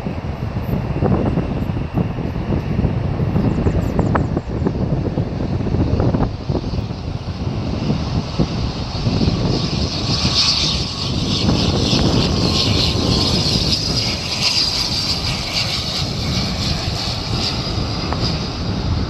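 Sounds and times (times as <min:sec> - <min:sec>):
turboprop airliner engines droning: 0:00.0 - 0:19.0.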